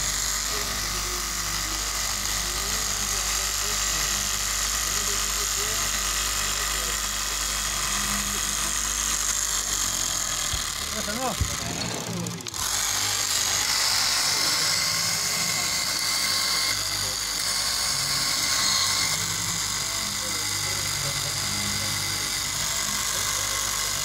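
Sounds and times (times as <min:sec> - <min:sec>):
cloth cutting machine whining: 0:00.0 - 0:24.0.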